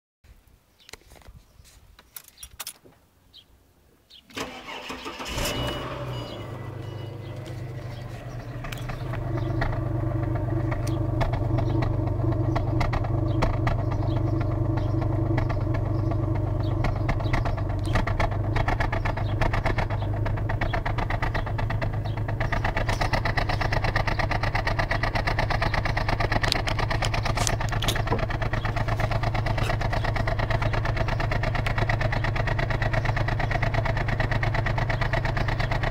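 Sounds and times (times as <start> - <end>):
car engine starting: 4.3 - 35.9
car engine idling unevenly: 4.4 - 35.9.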